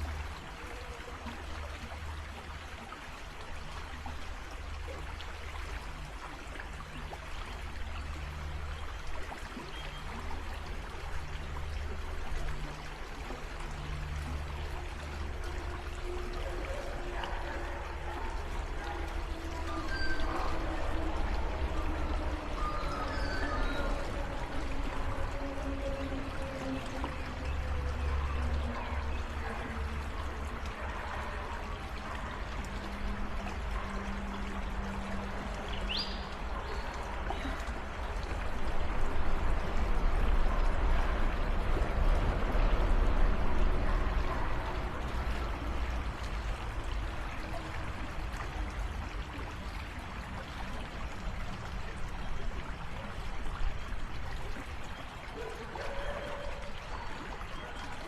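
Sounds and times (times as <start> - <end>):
creek water trickling: 0.0 - 58.0.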